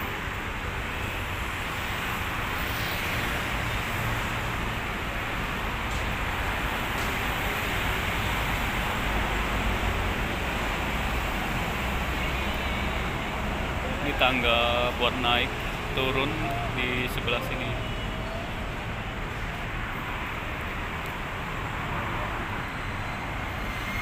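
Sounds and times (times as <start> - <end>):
dense road traffic: 0.0 - 24.0.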